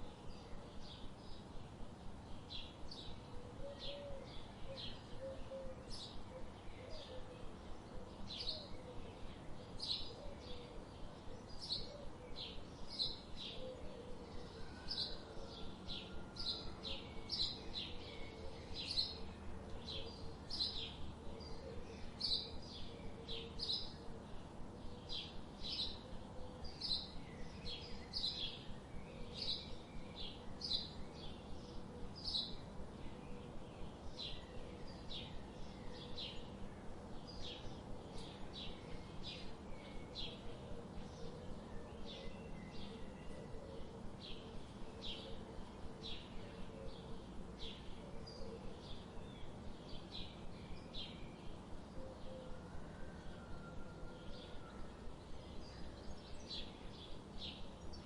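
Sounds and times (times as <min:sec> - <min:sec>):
small birds chirping: 0:00.0 - 0:52.6, 0:54.4 - 0:58.0
faint low hum: 0:00.0 - 0:58.0.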